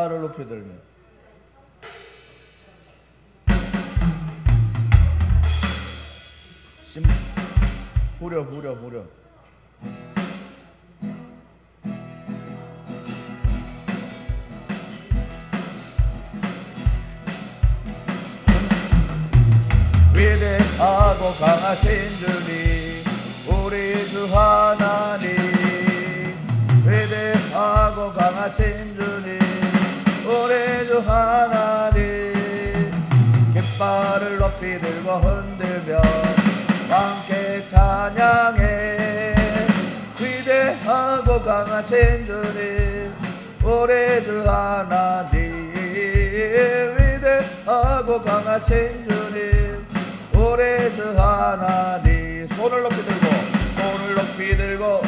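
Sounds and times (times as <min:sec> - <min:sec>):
electronic drum beat: 0:03.5 - 0:08.3, 0:13.5 - 0:55.0
strummed acoustic guitar: 0:07.1 - 0:08.2, 0:09.8 - 0:55.0.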